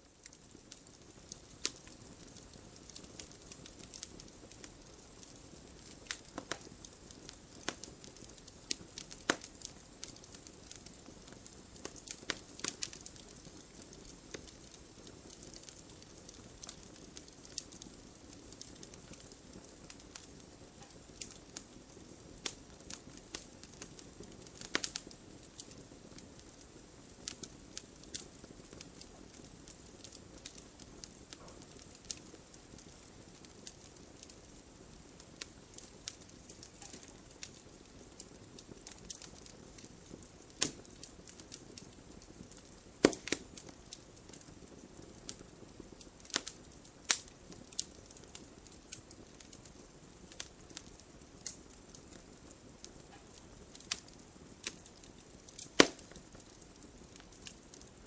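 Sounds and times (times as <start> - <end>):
soft hiss of fire: 0.0 - 58.0
wood fire crackling: 0.0 - 58.0
loud fire pops: 0.8 - 25.8, 27.2 - 52.4, 53.1 - 57.9.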